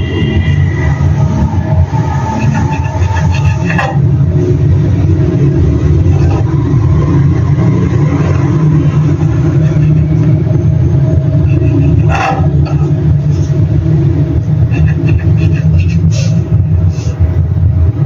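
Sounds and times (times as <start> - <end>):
loud low rumble: 0.0 - 18.0.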